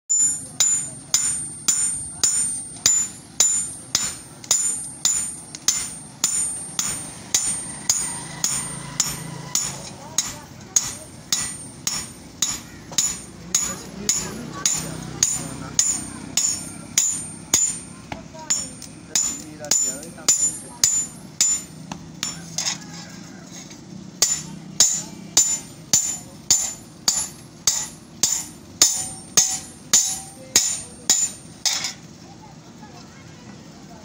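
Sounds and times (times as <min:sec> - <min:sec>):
hammer striking metal: 0:00.1 - 0:23.0, 0:23.6 - 0:32.1.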